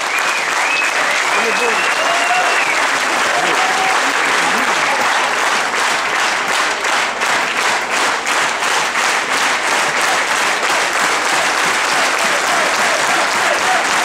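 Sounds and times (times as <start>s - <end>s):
crowd applauding: 0.0s - 14.0s
rhythmic clapping: 0.0s - 14.0s.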